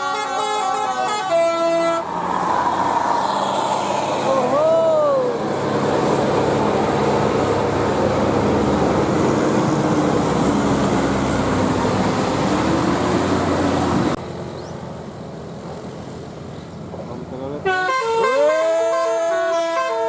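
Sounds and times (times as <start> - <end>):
bus engine running: 0.0 - 20.0
road noise: 0.0 - 20.0.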